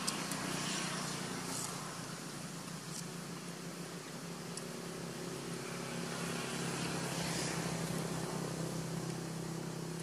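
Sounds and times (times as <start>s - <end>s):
even hiss: 0.0s - 10.0s
low mechanical hum: 0.0s - 10.0s.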